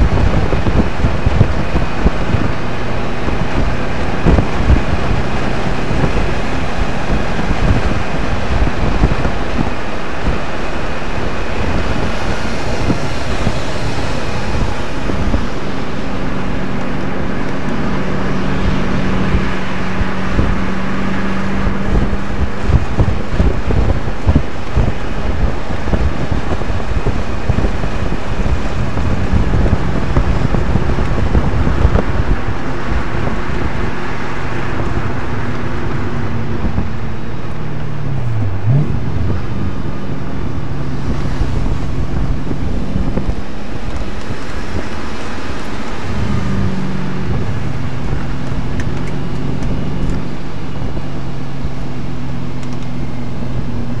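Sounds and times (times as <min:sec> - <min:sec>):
car engine running hard: 0:00.0 - 0:54.0
road rumble: 0:00.0 - 0:54.0
wind noise: 0:00.0 - 0:54.0.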